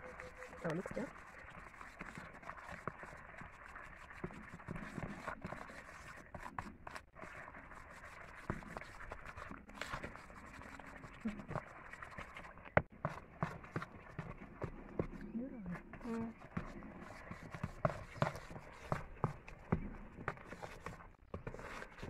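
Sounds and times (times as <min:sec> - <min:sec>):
wooden spoon scraping plastic bowl: 0:00.0 - 0:22.0.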